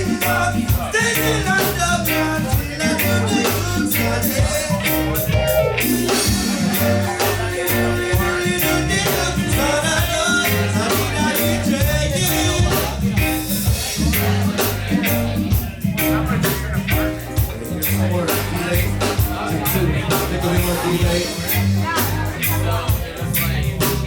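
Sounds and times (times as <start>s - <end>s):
bass line: 0.0s - 24.0s
drums keeping a steady beat: 0.0s - 24.0s
person singing: 0.0s - 24.0s.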